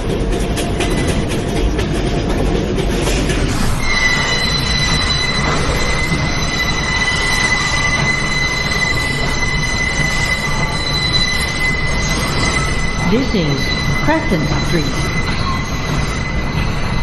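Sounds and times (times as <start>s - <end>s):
subway train rumble: 0.0s - 17.0s
train wheels squealing on rails: 0.0s - 17.0s.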